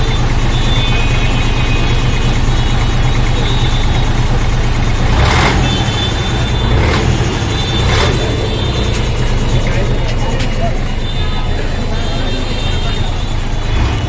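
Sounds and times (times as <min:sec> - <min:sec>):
bus diesel engine throbbing: 0:00.0 - 0:14.0.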